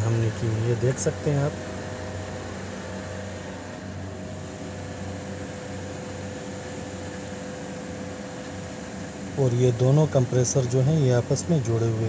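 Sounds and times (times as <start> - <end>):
faint constant whine: 0.0 - 12.0
machinery humming: 0.0 - 12.0.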